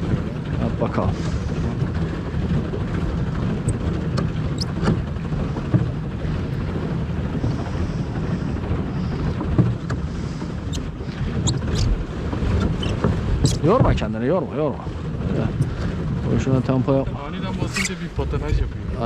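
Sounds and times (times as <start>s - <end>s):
paddle wheel churning water: 0.0s - 19.0s
wind buffeting microphone: 0.0s - 19.0s.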